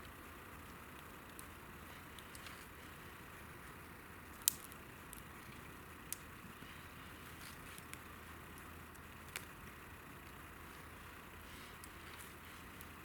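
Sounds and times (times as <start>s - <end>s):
campfire hissing: 0.1s - 13.0s
campfire popping: 0.1s - 13.0s.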